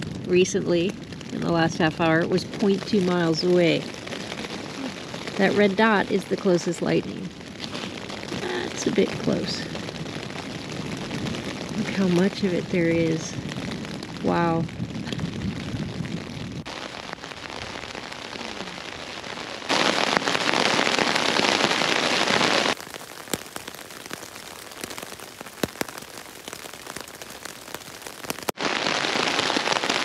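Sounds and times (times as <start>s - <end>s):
heavy rain on a tent: 0.0s - 30.0s.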